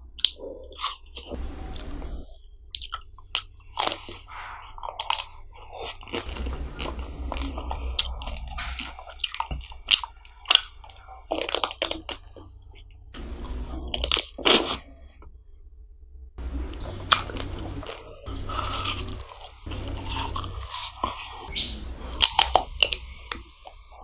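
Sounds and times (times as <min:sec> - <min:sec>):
wet chewing: 0:00.0 - 0:15.0, 0:16.4 - 0:24.0
biting ice cream bars crunching: 0:00.2 - 0:02.0, 0:02.7 - 0:14.9, 0:16.4 - 0:23.8.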